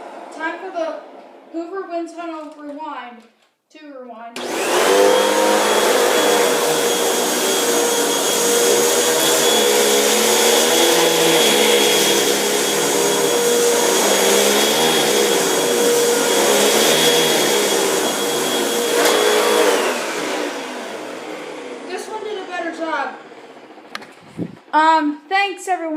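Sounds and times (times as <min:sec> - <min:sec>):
vacuum cleaner running: 0:00.0 - 0:01.6, 0:04.4 - 0:24.7.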